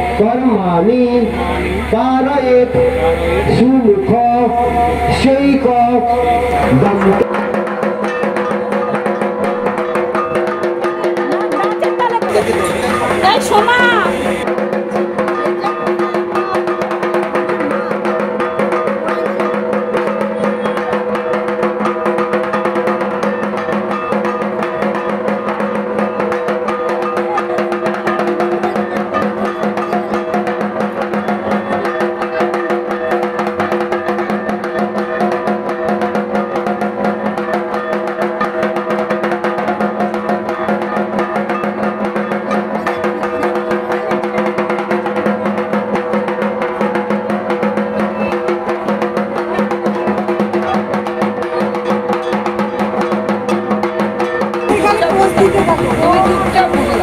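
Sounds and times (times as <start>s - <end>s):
drums beaten in fast rhythm: 0.0s - 57.0s
steady ringing tones: 0.0s - 57.0s.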